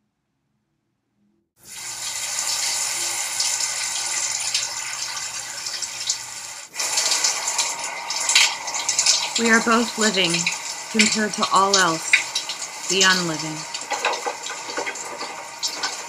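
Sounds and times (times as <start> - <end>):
shower head spraying water: 1.7 - 16.0.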